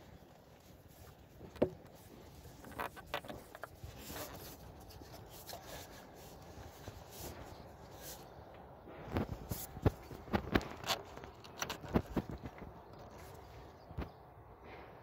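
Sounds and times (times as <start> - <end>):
hand rubbing rubber hose: 0.0 - 12.4.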